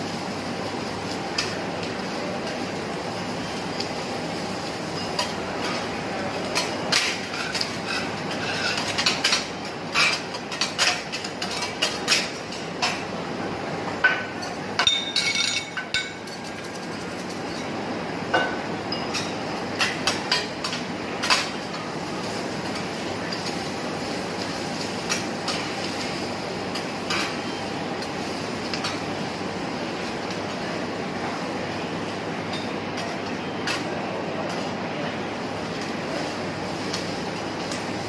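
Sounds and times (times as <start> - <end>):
food sizzling on a griddle: 0.0 - 38.0.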